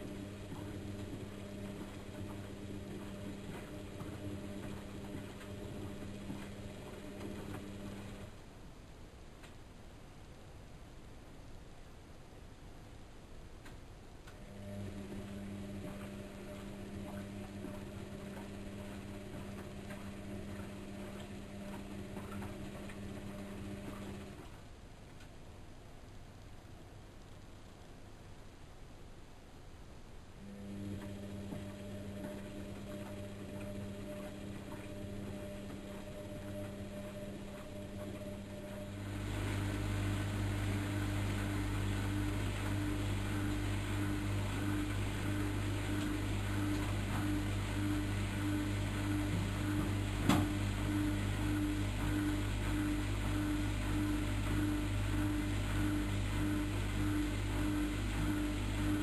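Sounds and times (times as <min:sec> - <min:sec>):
washing machine motor humming: 0:00.0 - 0:08.5, 0:14.3 - 0:24.8, 0:30.4 - 0:59.0.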